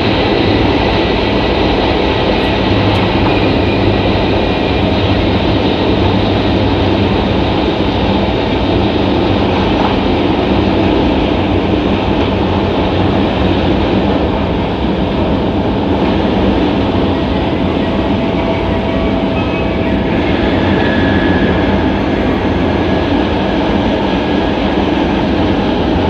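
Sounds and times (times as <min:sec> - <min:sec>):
high-speed train cabin noise: 0:00.0 - 0:26.0.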